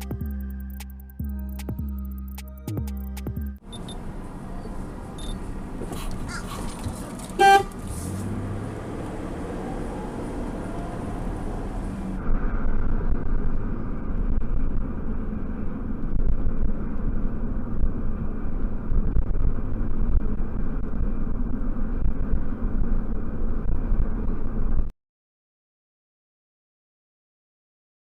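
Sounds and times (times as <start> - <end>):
car road and engine rumble: 0.0 - 24.9.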